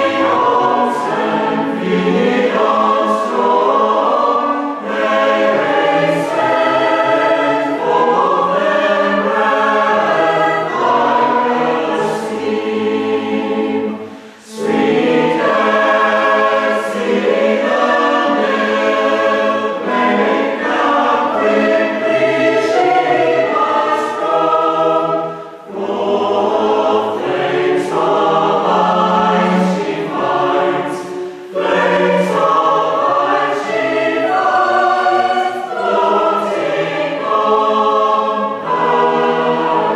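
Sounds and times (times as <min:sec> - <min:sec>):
cello and strings: 0:00.0 - 0:39.9
choir singing a carol: 0:00.0 - 0:39.9.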